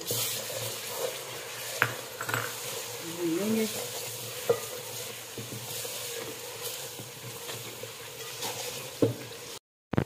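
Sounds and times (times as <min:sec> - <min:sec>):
spatula scraping a pot: 0:00.0 - 0:09.0
vegetables sizzling in a pot: 0:00.0 - 0:09.6.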